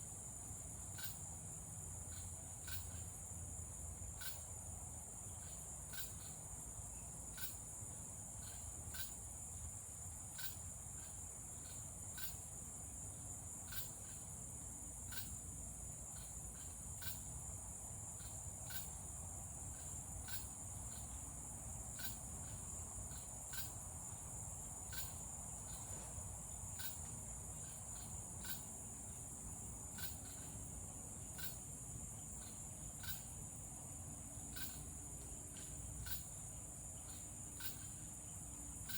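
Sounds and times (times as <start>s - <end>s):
cicadas and crickets droning: 0.0s - 38.9s
sharp insect tick: 0.1s - 38.9s.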